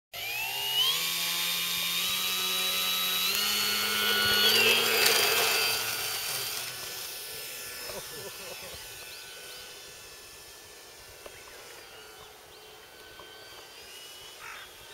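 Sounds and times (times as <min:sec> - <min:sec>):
model plane motor whining: 0:00.2 - 0:14.9.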